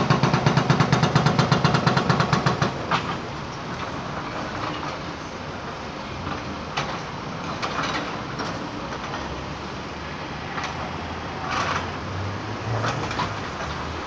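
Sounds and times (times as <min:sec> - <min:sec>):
excavator engine hum: 0:00.0 - 0:14.0.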